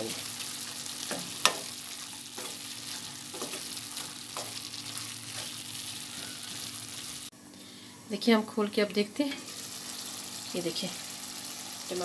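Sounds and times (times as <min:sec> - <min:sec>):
meat sizzling in a pan: 0:00.0 - 0:07.3, 0:09.4 - 0:12.0.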